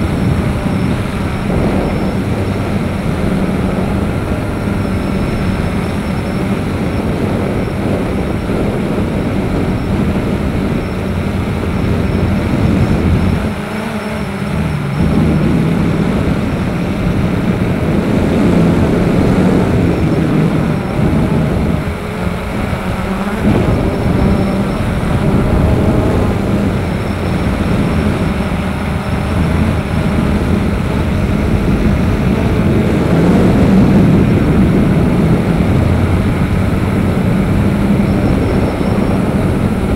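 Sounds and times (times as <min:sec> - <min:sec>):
drone propellers whirring: 0:00.0 - 0:39.9
rushing noise: 0:00.0 - 0:39.9.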